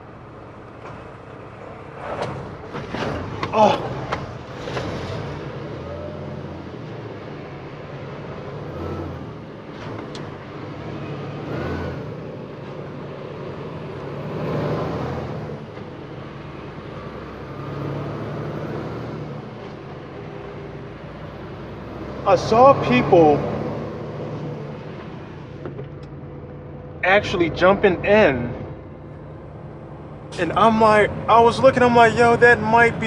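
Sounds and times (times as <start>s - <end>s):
road noise: 0.0s - 33.0s
traffic passing: 0.0s - 33.0s
truck engine drone: 0.0s - 33.0s.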